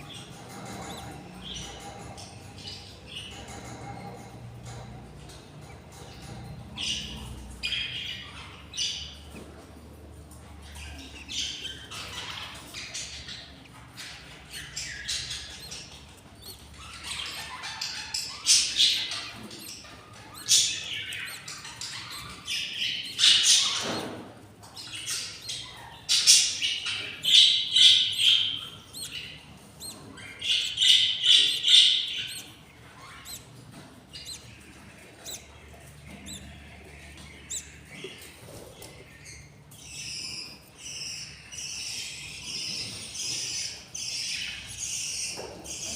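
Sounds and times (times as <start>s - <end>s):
budgerigars chirping and squawking: 0.0s - 45.9s.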